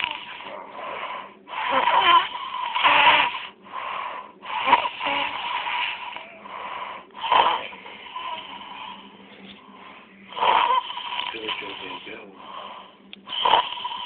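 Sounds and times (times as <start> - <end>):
rough snoring: 0.0 - 9.1, 10.3 - 14.0.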